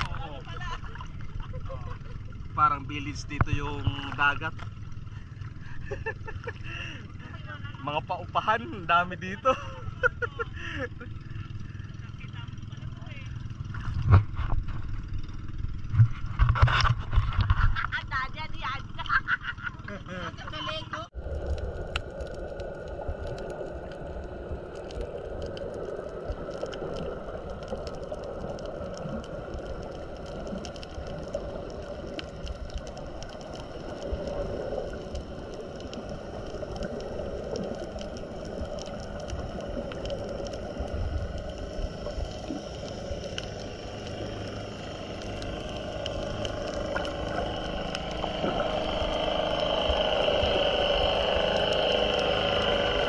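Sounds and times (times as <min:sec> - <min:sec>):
small underwater clicks and crackles: 0:00.0 - 0:53.0
underwater moving water: 0:00.0 - 0:53.0.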